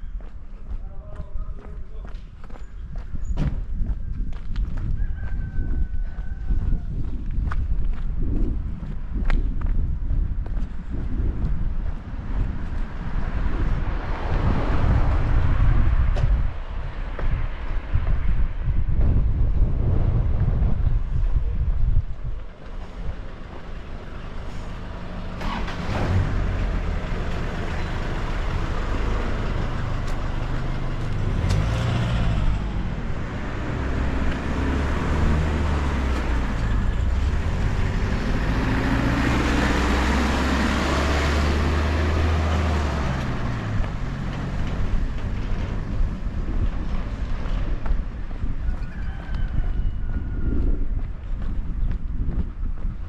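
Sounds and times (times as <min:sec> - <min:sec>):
vehicle engine hum: 0:05.7 - 0:53.0.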